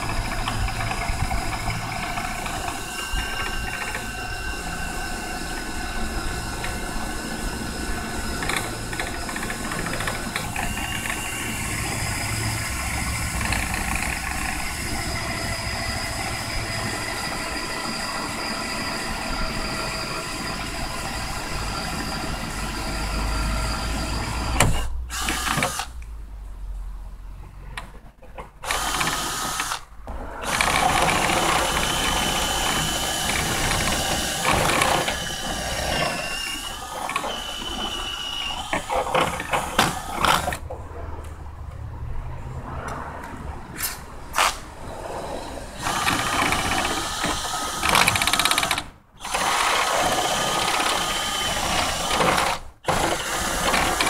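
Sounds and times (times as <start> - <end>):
cordless drill boring through roof: 0.0 - 26.0, 28.6 - 40.6, 45.4 - 54.0.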